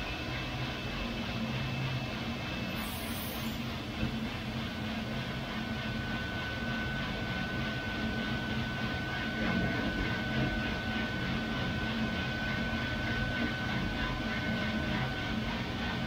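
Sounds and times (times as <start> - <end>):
coffee roaster fans whirring: 0.0 - 16.0.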